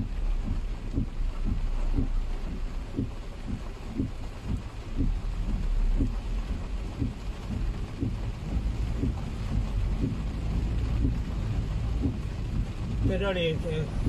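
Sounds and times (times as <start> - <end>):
heavy rain on a car: 0.0 - 14.0
windshield wipers sweeping: 0.0 - 14.0.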